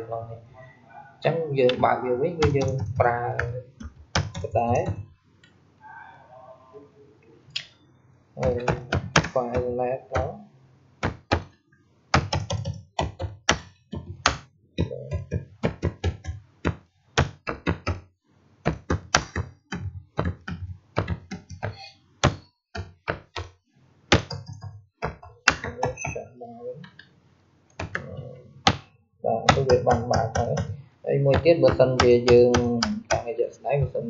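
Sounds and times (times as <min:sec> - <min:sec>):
keyboard typing: 0:01.5 - 0:05.1, 0:08.4 - 0:10.4, 0:11.0 - 0:18.0, 0:18.6 - 0:27.1, 0:27.7 - 0:34.0.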